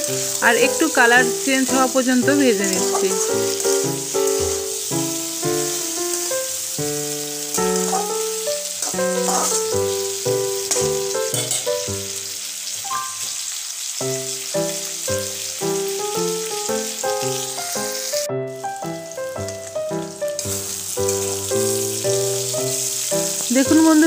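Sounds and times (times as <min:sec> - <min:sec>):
instrumental background music: 0:00.0 - 0:12.2, 0:14.0 - 0:24.0
okra sizzling in oil: 0:00.0 - 0:24.0.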